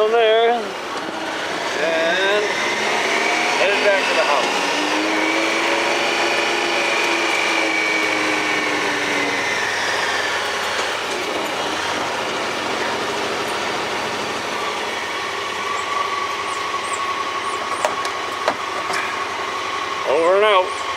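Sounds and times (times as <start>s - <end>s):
steady whine: 0.0s - 20.9s
vehicle engine running: 0.0s - 20.9s.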